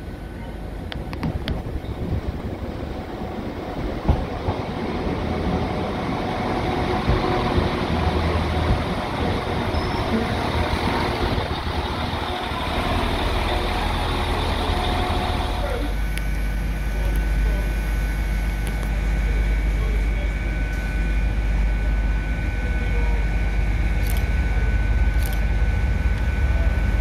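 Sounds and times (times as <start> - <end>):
train engines and wheels rumbling: 0.0 - 27.0.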